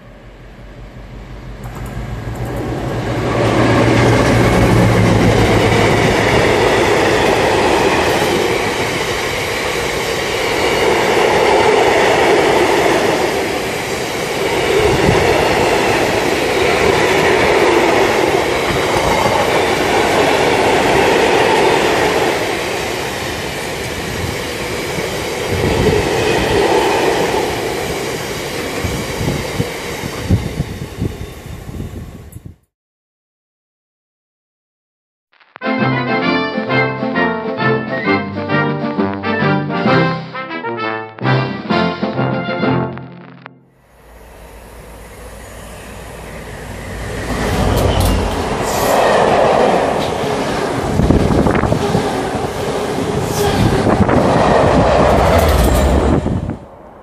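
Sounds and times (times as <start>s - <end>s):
diesel locomotive engine hum: 0.0s - 32.4s, 43.8s - 57.0s
train wheels rumbling on rails: 0.0s - 32.6s, 43.9s - 57.0s.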